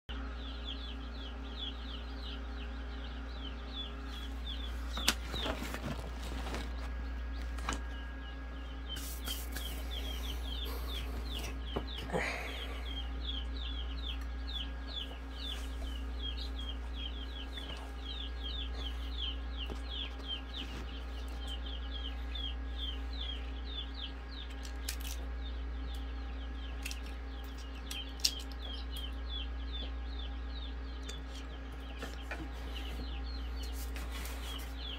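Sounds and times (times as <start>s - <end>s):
chicks peeping: 0.1s - 34.9s
steady low hum: 0.1s - 34.9s.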